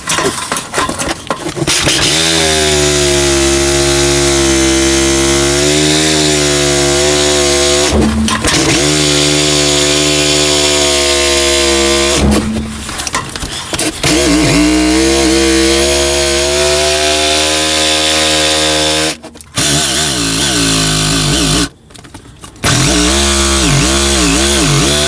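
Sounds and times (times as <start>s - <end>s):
reciprocating saw cutting wood: 1.4s - 21.7s, 22.6s - 25.0s.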